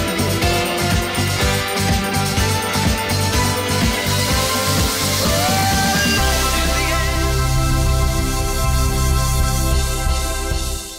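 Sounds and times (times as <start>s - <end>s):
instrumental background music: 0.0s - 10.9s.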